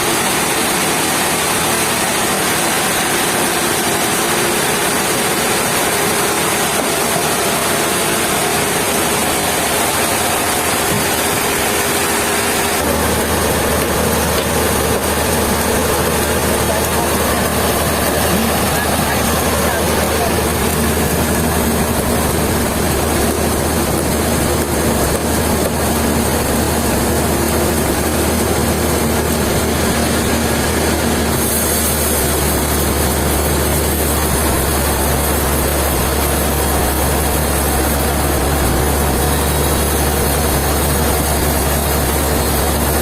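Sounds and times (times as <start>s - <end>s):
sawmill machinery running: 0.0s - 43.0s.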